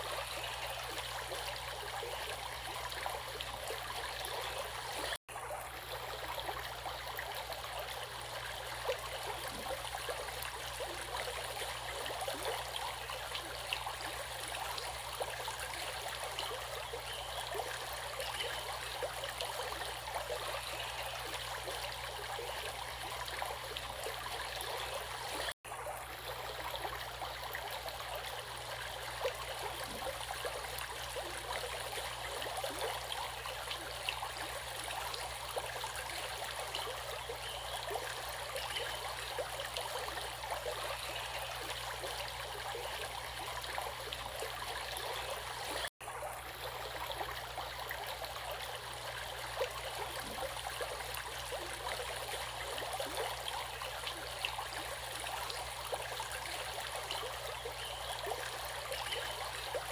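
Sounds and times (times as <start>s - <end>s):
running water babbling: 0.0s - 59.9s.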